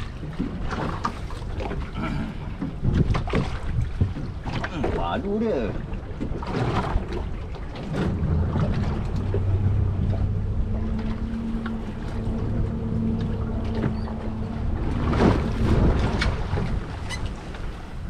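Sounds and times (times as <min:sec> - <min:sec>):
boat engine humming: 0:00.0 - 0:18.0
water noise: 0:00.0 - 0:18.0
wind buffeting microphone: 0:00.0 - 0:18.0.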